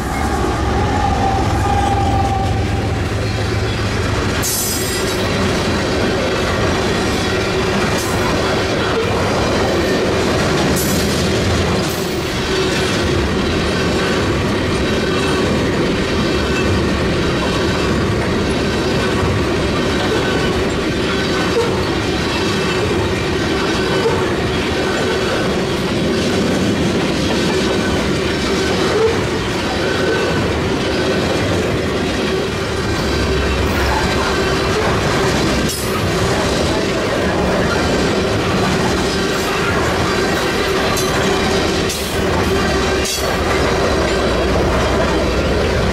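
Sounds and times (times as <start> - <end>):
freight train rumbling past: 0.0 - 45.9
wheels clicking over rail joints: 3.0 - 45.9.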